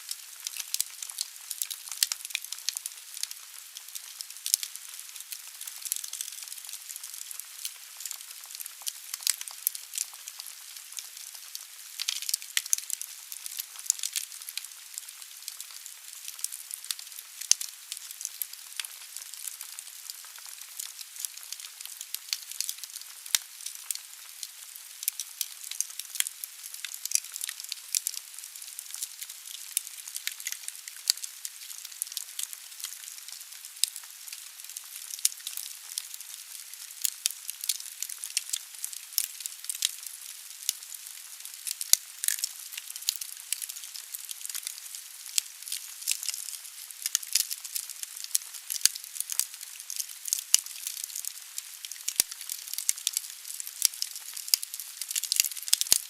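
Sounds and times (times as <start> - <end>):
firewood crackling and hissing: 0.0 - 56.0.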